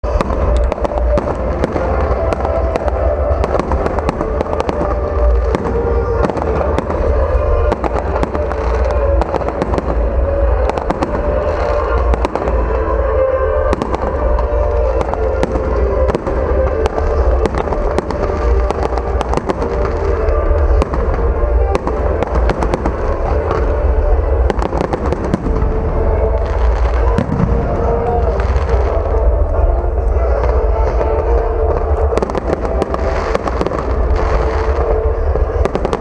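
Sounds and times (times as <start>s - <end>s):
fireworks bangs and crackles: 0.0s - 36.0s
heavy low rumble: 0.0s - 36.0s.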